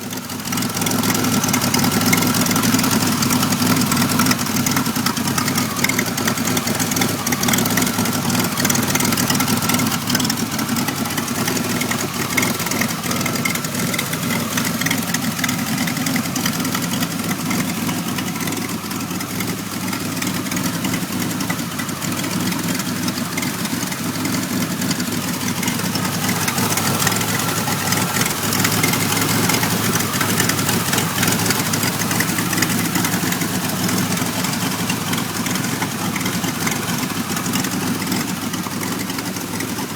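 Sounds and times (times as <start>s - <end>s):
car engine idling roughly: 0.0s - 39.9s.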